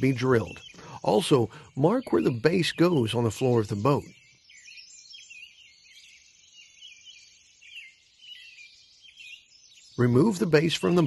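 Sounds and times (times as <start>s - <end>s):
birds chirping and whistling: 0.0s - 11.0s.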